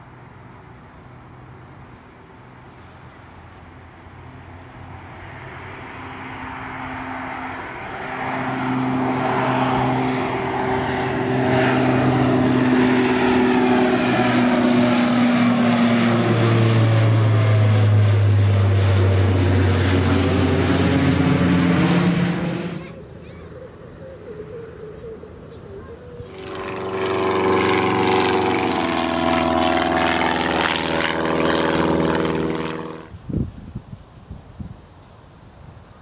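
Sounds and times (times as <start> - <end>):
airliner engines: 0.0 - 36.0.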